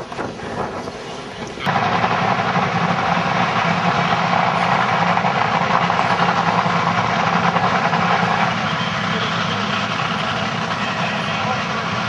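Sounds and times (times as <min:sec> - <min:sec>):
dragster engine idling loud: 0:01.7 - 0:12.0.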